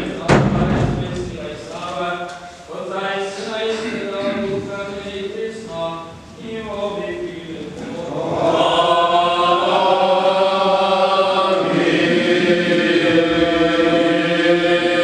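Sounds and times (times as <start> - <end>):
male choir chanting a hymn: 0.0 - 15.0.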